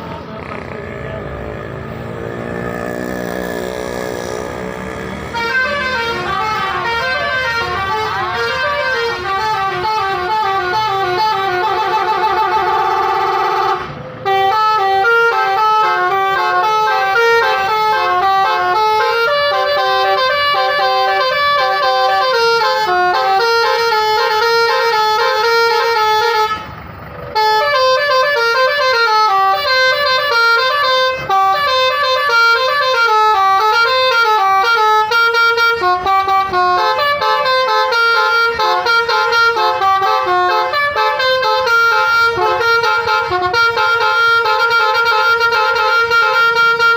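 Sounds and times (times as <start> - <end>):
musical bus air horn: 3.0 - 46.9.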